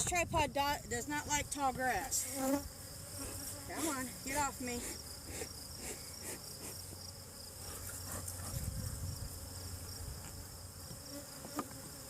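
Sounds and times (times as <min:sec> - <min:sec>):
insects chirping: 0:00.1 - 0:12.0
bees buzzing: 0:01.0 - 0:12.0.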